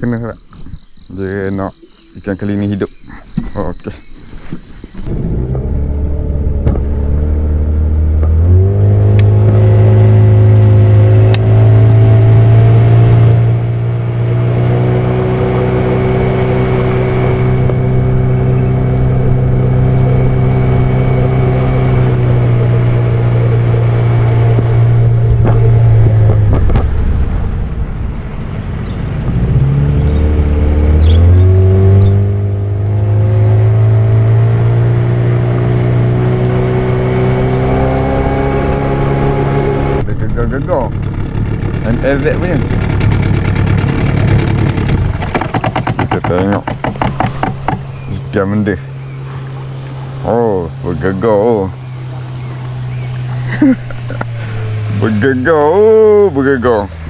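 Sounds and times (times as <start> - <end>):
outboard motor running: 4.5 - 27.1, 29.0 - 57.0.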